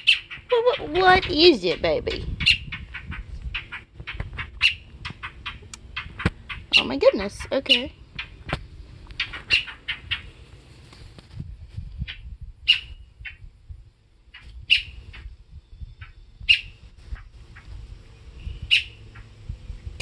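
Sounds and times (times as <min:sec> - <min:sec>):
fledgling bird chirping: 0:00.0 - 0:10.5, 0:12.0 - 0:13.4, 0:14.2 - 0:19.4.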